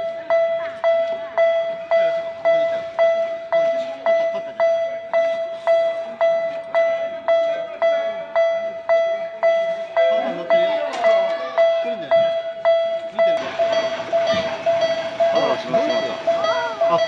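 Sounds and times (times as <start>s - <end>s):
railroad crossing bell ringing: 0.0s - 17.0s.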